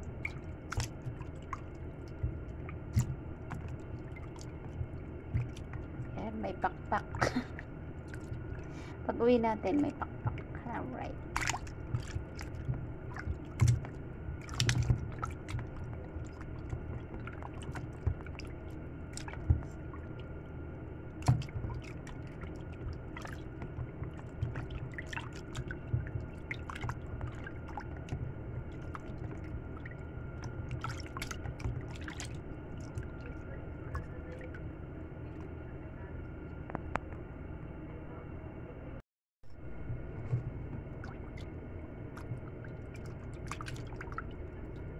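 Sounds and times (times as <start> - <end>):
wet squishing and dripping: 0.0 - 9.0, 10.0 - 20.5, 21.1 - 34.6, 40.2 - 44.9.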